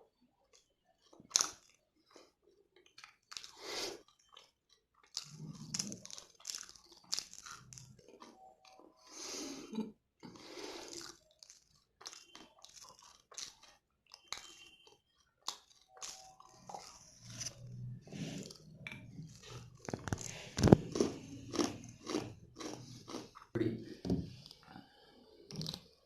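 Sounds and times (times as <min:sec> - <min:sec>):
crunching and chewing candy: 0:00.1 - 0:09.4, 0:10.2 - 0:23.5, 0:25.5 - 0:26.0.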